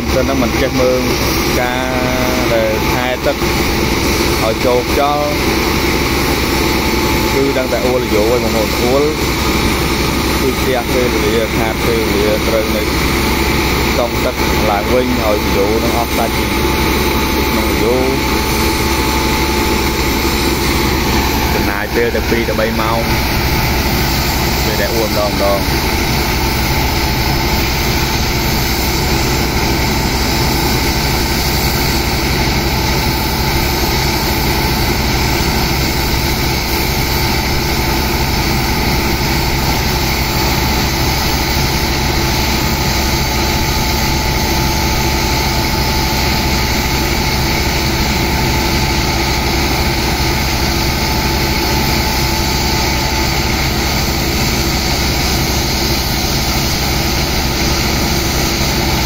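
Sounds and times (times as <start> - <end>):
heavy engine running: 0.0 - 59.0
high-pressure water jets hissing: 0.0 - 59.0.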